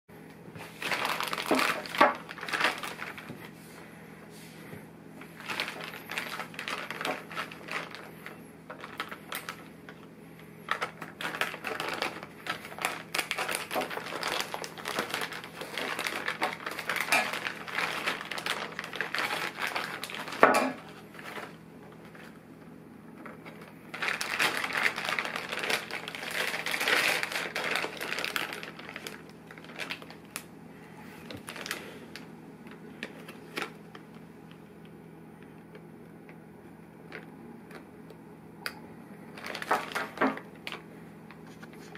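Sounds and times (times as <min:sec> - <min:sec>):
plastic packaging crinkling: 0:00.6 - 0:03.6, 0:05.2 - 0:36.4, 0:39.2 - 0:41.9.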